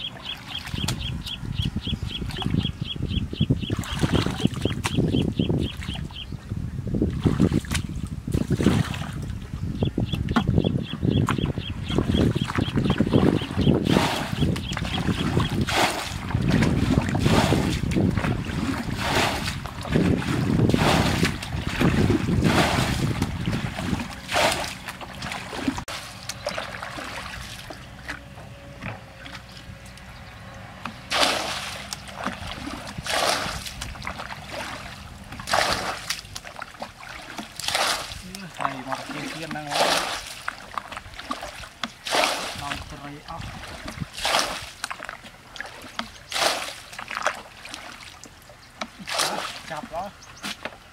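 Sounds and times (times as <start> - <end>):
water sloshing: 0.0 - 6.3, 7.0 - 50.9
bucket scooping water: 3.6 - 6.1, 7.0 - 50.9
water splashing: 3.6 - 6.2, 7.0 - 9.6, 11.2 - 50.9.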